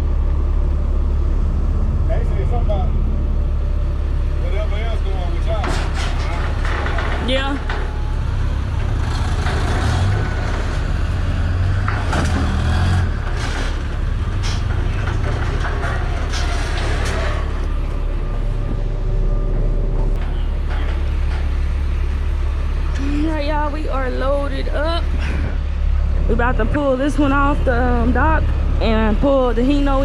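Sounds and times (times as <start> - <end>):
truck idling: 0.0 - 30.0
freight banging and rattling: 3.6 - 30.0.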